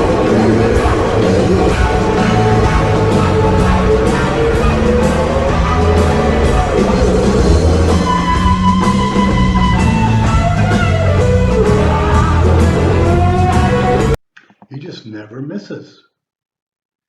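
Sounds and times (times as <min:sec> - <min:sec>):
blues-rock band playing: 0:00.0 - 0:14.2
lead electric guitar bending notes: 0:00.0 - 0:14.2.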